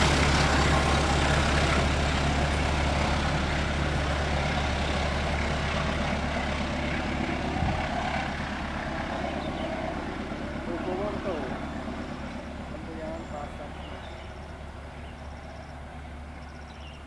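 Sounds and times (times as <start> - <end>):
diesel engine drone: 0.0 - 17.0
train cars rumbling and rattling: 0.0 - 17.0.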